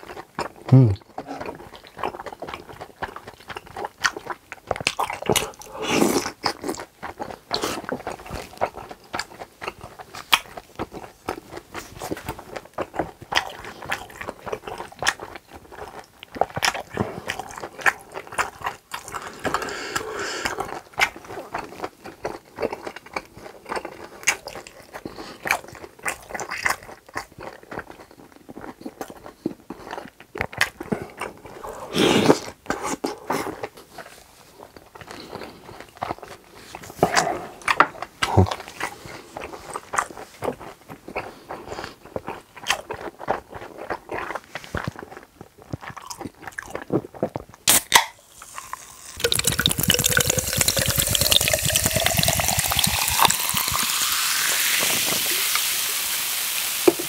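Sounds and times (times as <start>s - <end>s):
wet sticky chewing sounds: 0.0s - 55.7s.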